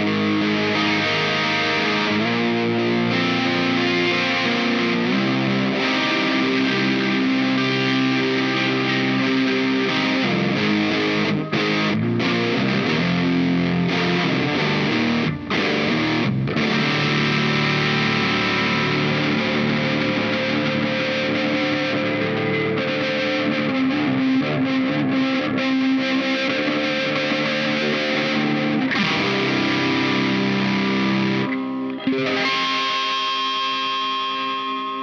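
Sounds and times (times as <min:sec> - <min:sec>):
distorted electric guitar riffs: 0:00.0 - 0:35.0.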